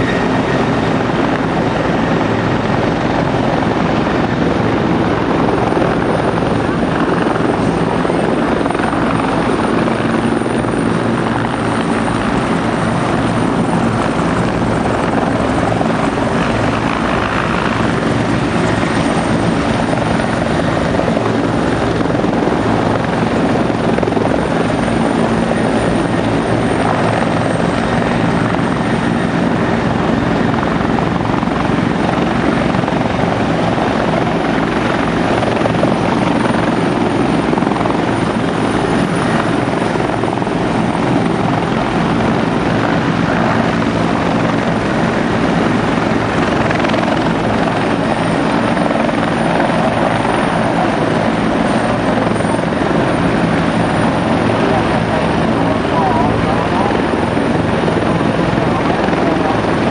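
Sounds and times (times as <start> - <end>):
helicopter rotors and engines: 0.0 - 59.9.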